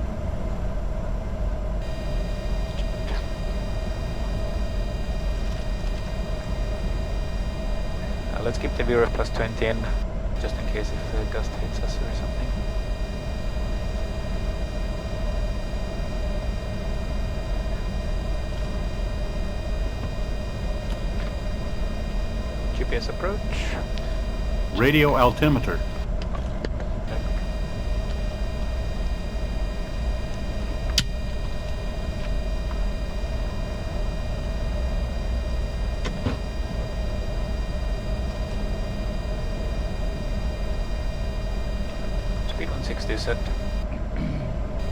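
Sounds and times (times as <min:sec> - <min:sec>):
jet cockpit rumble: 0:00.0 - 0:44.9
faint steady high tones: 0:01.8 - 0:26.1, 0:27.1 - 0:43.9.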